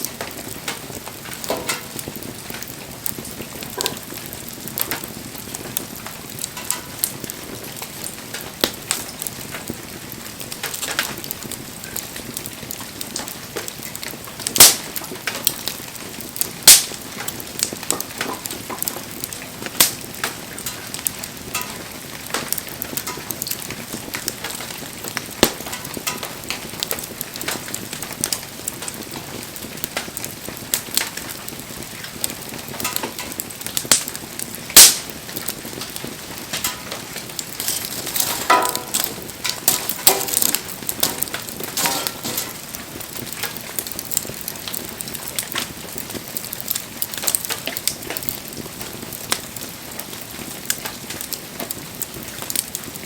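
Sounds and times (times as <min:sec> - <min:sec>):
campfire crackling: 0:00.0 - 0:53.0
loud fire pops: 0:00.0 - 0:53.0.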